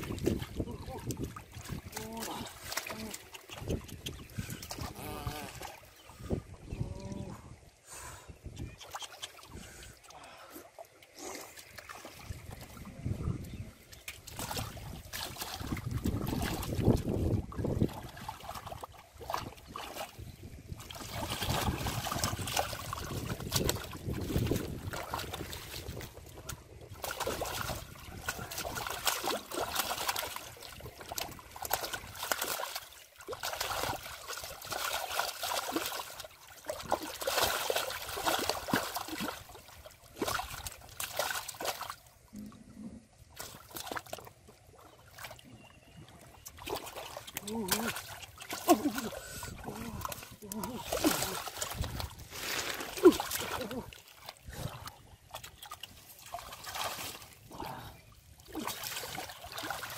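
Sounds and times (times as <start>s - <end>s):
hands splashing in muddy water: 0.0s - 6.3s, 8.4s - 42.2s, 43.3s - 45.6s, 46.2s - 59.9s
water trickling: 0.0s - 7.8s, 8.4s - 59.9s.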